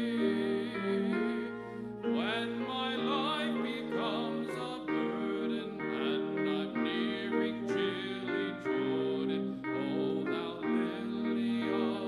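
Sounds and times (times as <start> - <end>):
instrumental accompaniment: 0.0 - 12.0
slow hymn singing: 0.0 - 12.0.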